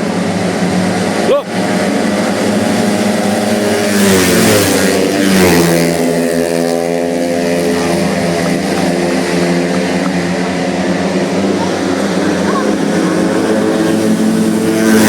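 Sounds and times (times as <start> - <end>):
scooter engines running hard: 0.0 - 15.0.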